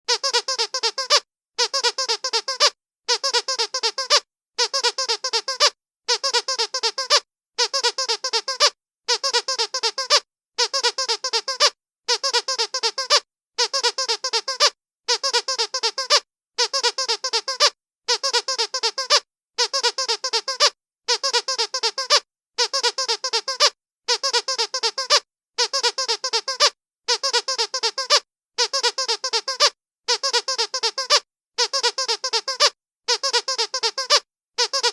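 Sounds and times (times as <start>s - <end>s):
squeaky dog toy squeaking: 0.1s - 34.9s.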